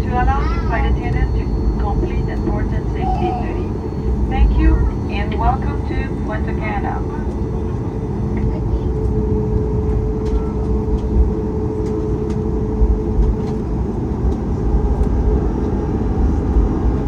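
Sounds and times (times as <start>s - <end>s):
aircraft cabin rumble: 0.0s - 17.0s
steady hum: 0.0s - 17.0s.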